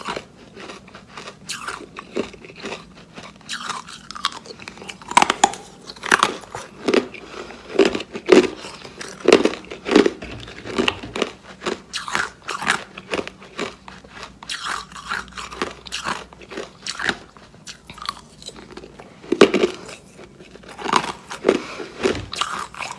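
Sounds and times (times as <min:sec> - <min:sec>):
ice being chewed crunching: 0:00.0 - 0:22.9.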